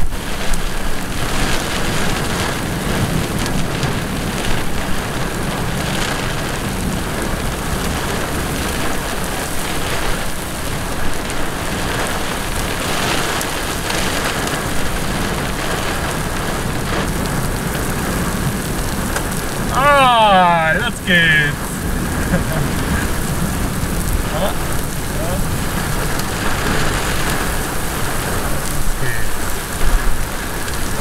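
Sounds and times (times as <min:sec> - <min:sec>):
heavy rain on road: 0:00.0 - 0:31.0.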